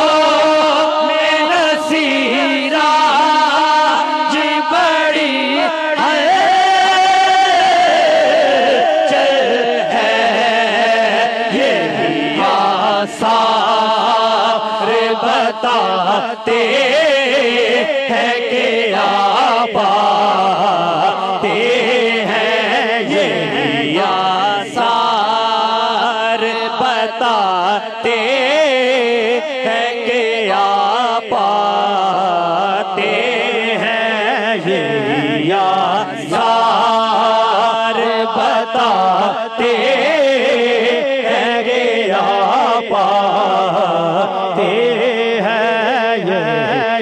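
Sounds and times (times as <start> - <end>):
man singing into a microphone: 0.0 - 47.0
men singing along: 0.0 - 47.0.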